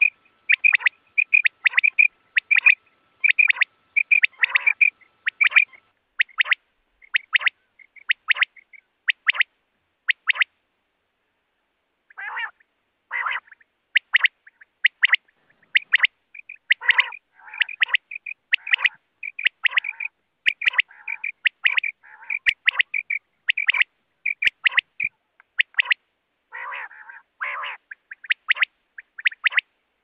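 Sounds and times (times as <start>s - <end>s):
quail calling: 0.0s - 9.5s, 10.1s - 10.5s, 12.1s - 29.7s.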